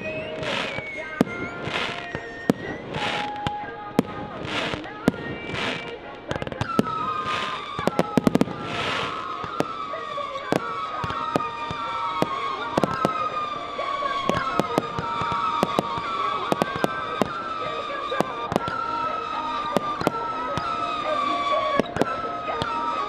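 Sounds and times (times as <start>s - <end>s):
fireworks bangs and crackling: 0.0s - 23.0s
high whistling tone: 0.0s - 23.0s.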